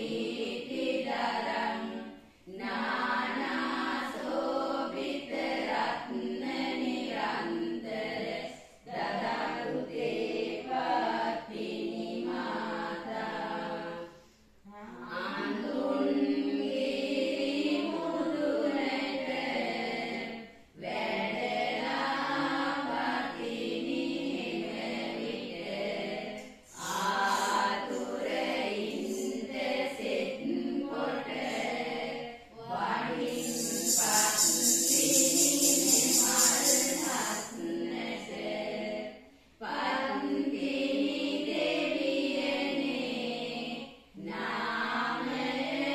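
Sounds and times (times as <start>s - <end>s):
women chanting devotional song: 0.0s - 45.9s.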